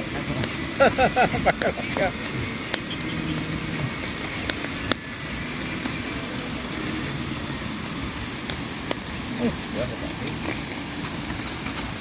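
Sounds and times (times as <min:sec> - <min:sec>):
campfire crackling pops: 0:00.0 - 0:12.0
steady low rumble: 0:00.0 - 0:12.0.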